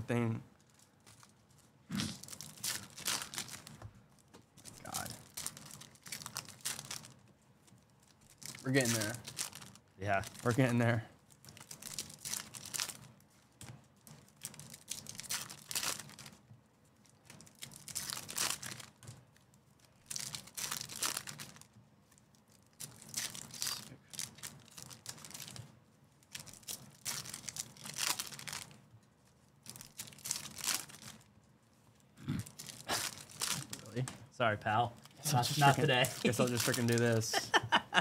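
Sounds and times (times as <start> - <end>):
foil wrappers tearing and crinkling: 0.6 - 16.4, 17.0 - 31.3, 32.4 - 34.1, 35.0 - 37.3.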